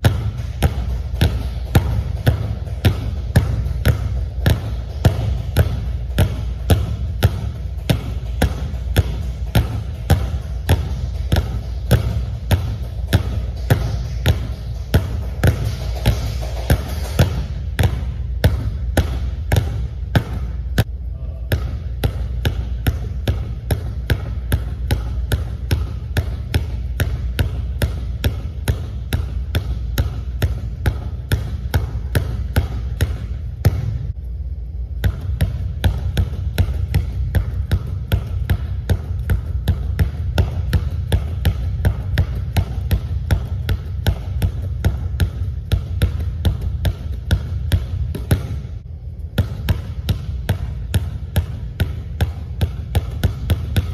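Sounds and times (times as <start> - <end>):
basketballs bouncing on hardwood floor: 0.0 - 34.2, 35.0 - 53.9
steady low hum: 0.0 - 53.9.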